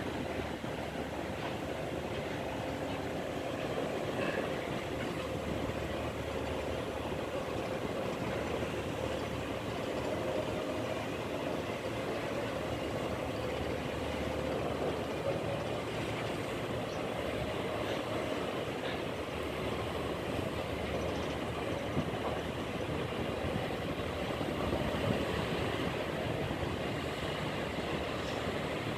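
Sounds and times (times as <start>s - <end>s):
ferry engines droning: 0.0s - 28.9s
propeller wash churning water: 0.0s - 28.9s.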